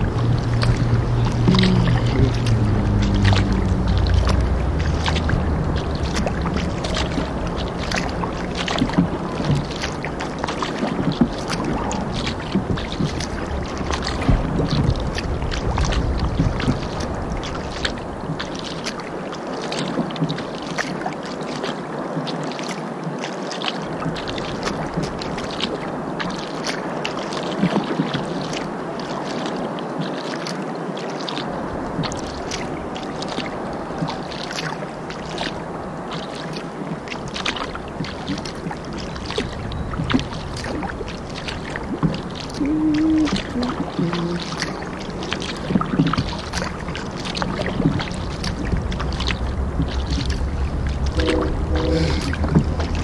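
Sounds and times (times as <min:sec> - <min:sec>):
moving river water: 0:00.0 - 0:53.0
paddle splashing in water: 0:00.0 - 0:53.0.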